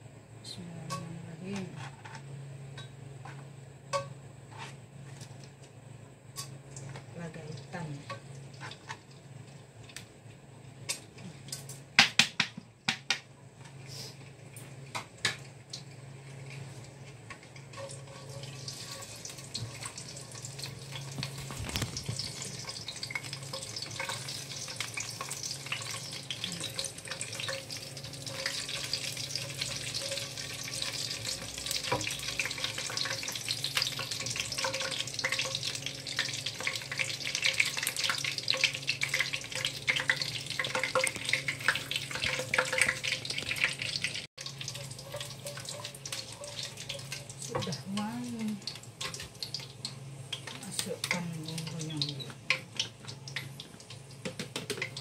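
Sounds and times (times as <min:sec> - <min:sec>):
spices sizzling in hot oil: 0:06.2 - 0:12.0, 0:13.6 - 0:55.0.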